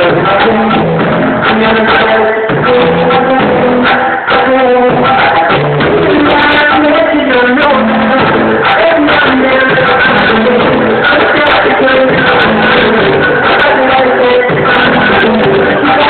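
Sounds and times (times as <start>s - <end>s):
loud music with steady beat: 0.0s - 16.0s.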